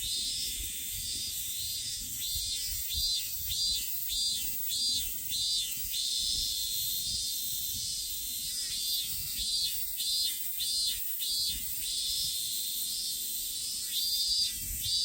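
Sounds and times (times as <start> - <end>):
cicada singing: 0.0 - 15.0.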